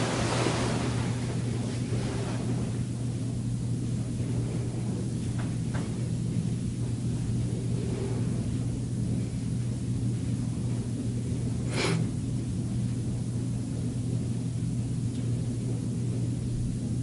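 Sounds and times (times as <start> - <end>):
soft rush of noise: 0.0 - 16.5
low hum: 0.0 - 17.0.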